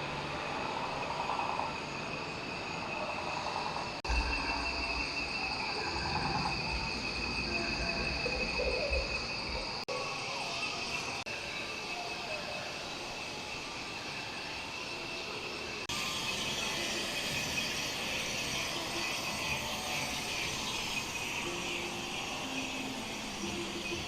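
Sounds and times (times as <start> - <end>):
crickets and insects chirring: 0.0 - 24.0.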